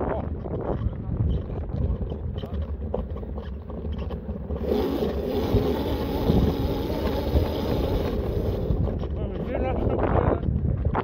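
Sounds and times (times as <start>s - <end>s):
electric bike riding off-road: 0.0s - 11.0s
tyres on rough ground: 0.0s - 11.0s
wind noise on microphone: 0.0s - 11.0s.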